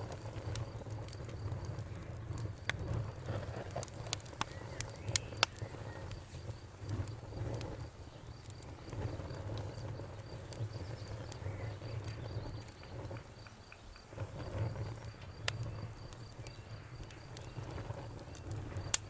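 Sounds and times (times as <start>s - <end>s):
crickets chirping: 0.0s - 19.0s
wood fire crackling: 0.0s - 19.0s.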